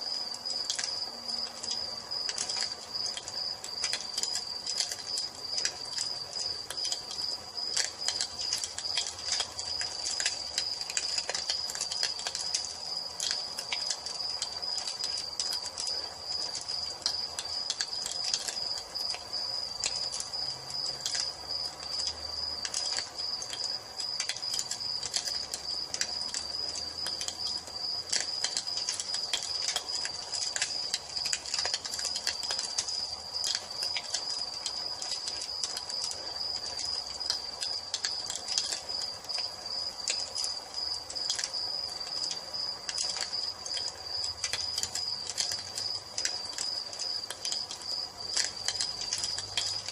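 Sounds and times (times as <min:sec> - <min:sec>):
crickets chirping: 0:00.0 - 0:49.9
wood fire crackling and popping: 0:00.0 - 0:49.9.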